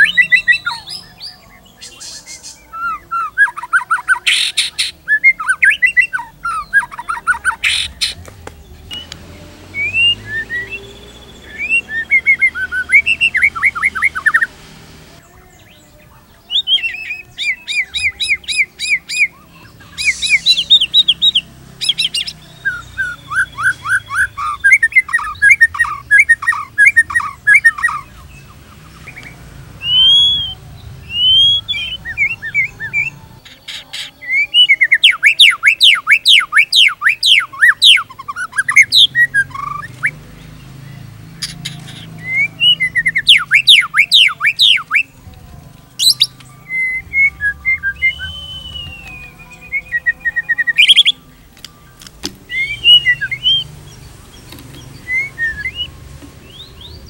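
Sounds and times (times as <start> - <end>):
bird singing trills and whistles: 0.0 - 14.6, 15.2 - 57.0.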